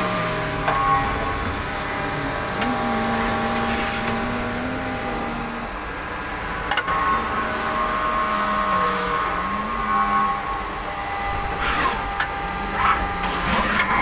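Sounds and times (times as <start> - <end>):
machine hum: 0.0 - 11.6
lathe drive whine: 0.0 - 14.0.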